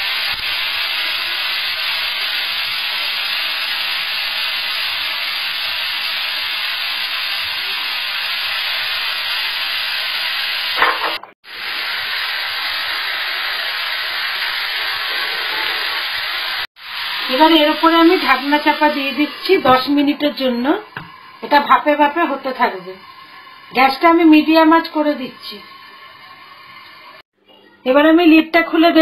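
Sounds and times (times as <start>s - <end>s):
chicken sizzling in a pan: 0.0s - 27.2s.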